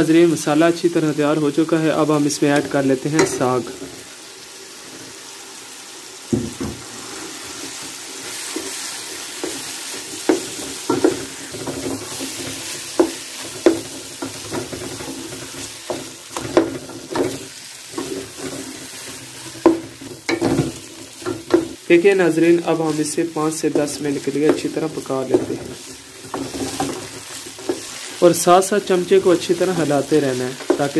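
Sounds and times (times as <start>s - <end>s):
food sizzling in hot oil: 0.0s - 30.9s.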